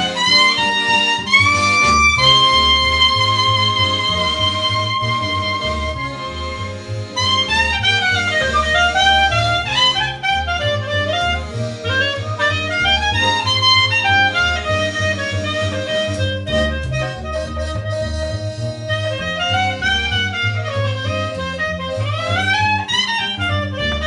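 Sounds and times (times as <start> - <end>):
accordion playing fast runs: 0.0 - 24.0
pulsing bass line: 0.0 - 24.0.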